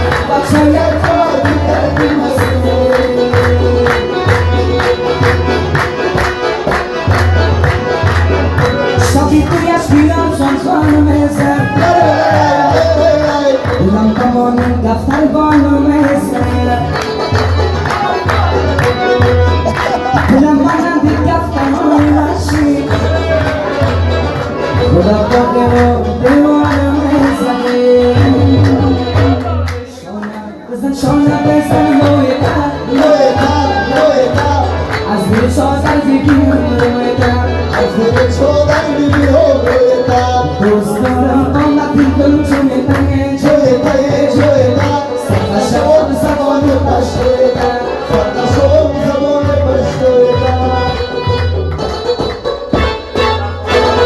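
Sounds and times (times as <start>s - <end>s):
person singing a melody: 0.0s - 5.3s, 8.7s - 24.0s, 24.6s - 51.7s.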